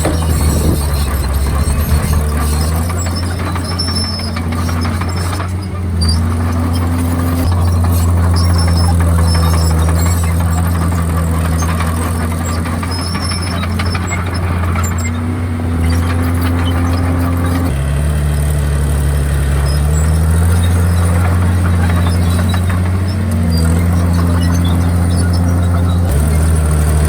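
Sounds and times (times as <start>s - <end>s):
high squeal from steel tracks: 0.0s - 17.7s, 19.6s - 27.0s
bulldozer diesel engine under load: 0.0s - 27.0s.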